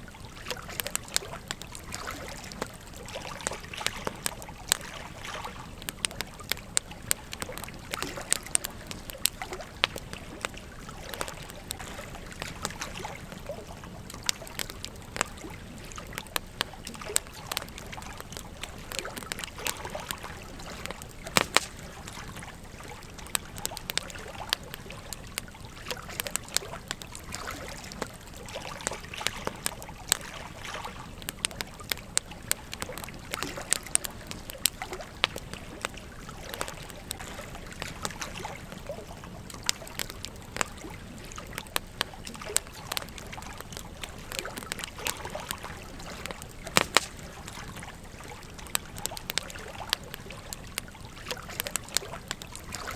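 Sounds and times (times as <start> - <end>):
campfire crackling: 0.0 - 52.9
gentle stream trickling: 0.0 - 52.9.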